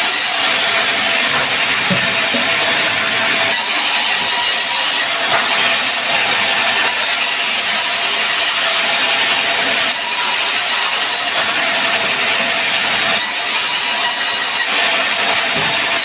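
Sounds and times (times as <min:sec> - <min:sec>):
woodworking machine cutting wood: 0:00.0 - 0:16.0.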